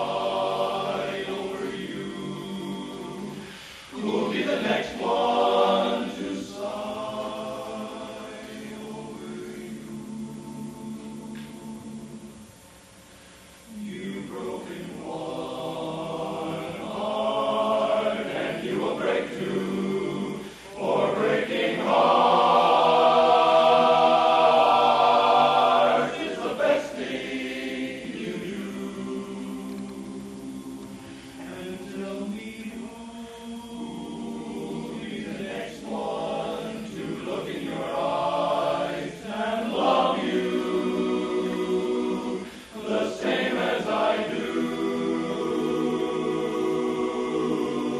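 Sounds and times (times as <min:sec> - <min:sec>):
male chorus singing a cappella: 0:00.0 - 0:12.5, 0:13.7 - 0:47.9.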